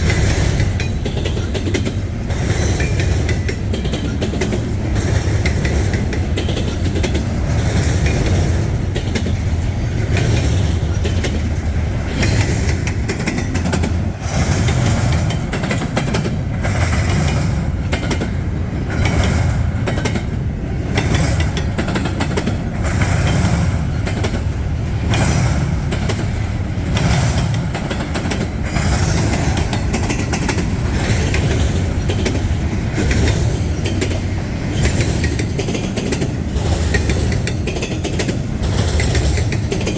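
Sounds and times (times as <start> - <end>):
freight train rumbling: 0.0 - 39.9
train cars clanking: 0.0 - 39.9.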